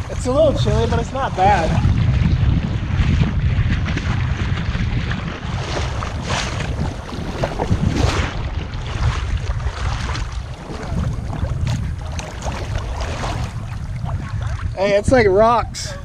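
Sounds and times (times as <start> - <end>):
surf washing and splashing: 0.0 - 16.0
wind rumbling on microphone: 0.0 - 16.0.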